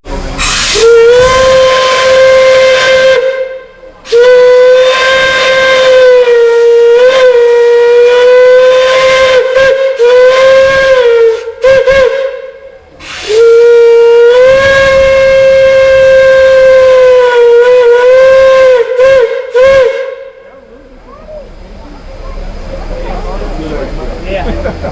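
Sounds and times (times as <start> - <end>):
steam hissing: 0.0 - 20.4
steam whistle blasts: 0.2 - 20.5.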